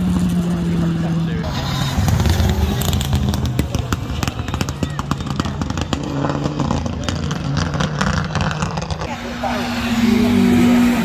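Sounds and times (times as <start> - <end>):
rally car engine driving away: 0.0 - 11.0.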